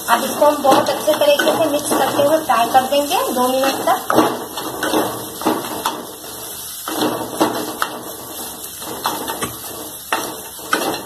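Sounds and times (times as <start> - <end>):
potato mixture frying: 0.0 - 11.0
spatula scraping pan: 0.0 - 11.0.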